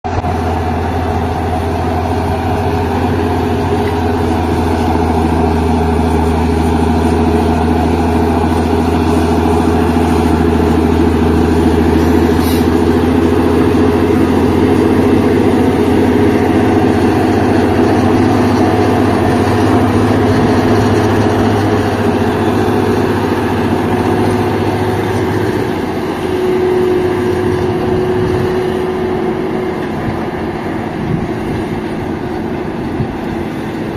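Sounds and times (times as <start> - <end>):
tractor engine droning: 0.0 - 33.9.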